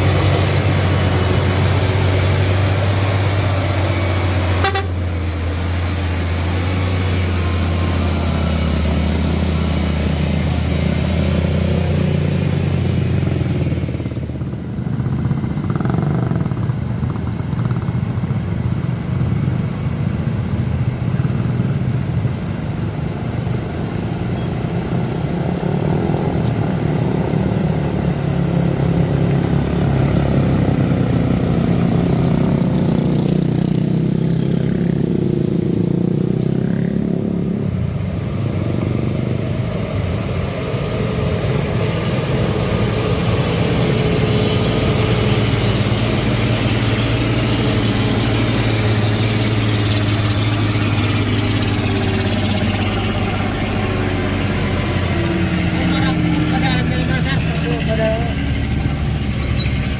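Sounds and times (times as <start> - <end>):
passing traffic engines: 0.0 - 59.9.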